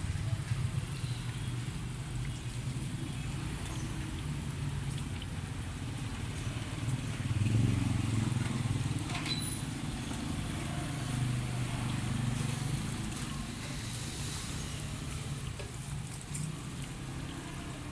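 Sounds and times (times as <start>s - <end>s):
vehicle engines passing: 0.0s - 17.9s.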